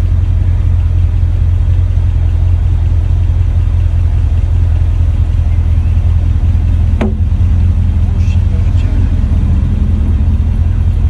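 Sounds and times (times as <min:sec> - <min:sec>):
truck engine running low: 0:00.0 - 0:11.0.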